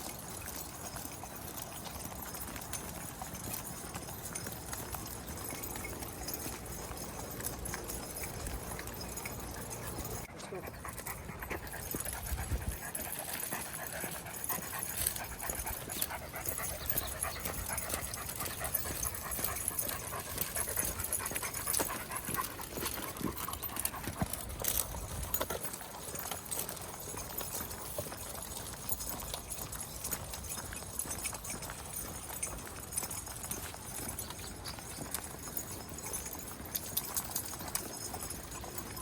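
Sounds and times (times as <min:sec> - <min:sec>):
dogs panting: 0:00.0 - 0:39.0
footsteps: 0:00.5 - 0:39.0.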